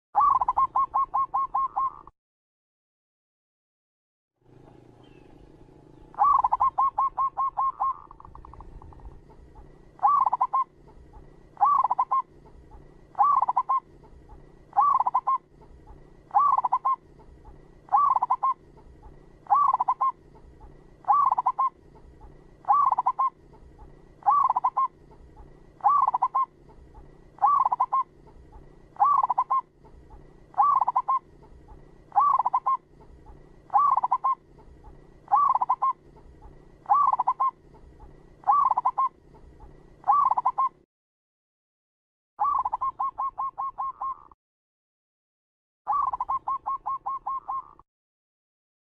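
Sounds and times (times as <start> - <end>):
dove rolling coo: 0.2 - 2.1, 6.1 - 40.8, 42.4 - 44.4, 45.9 - 47.8
dove stuttering notes: 0.2 - 2.1, 6.1 - 40.8, 42.4 - 44.3, 45.9 - 47.8.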